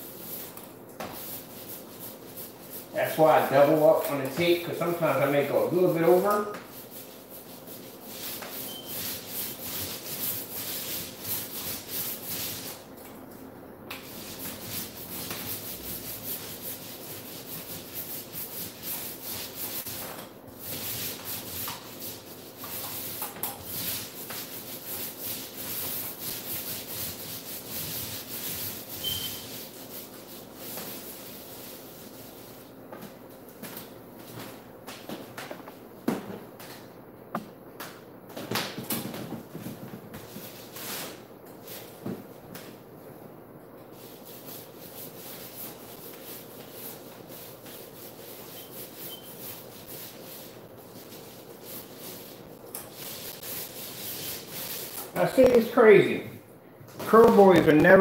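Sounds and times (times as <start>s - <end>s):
paint roller rolling on wall: 0.1s - 12.9s, 14.0s - 36.8s, 38.7s - 42.1s, 43.9s - 55.8s.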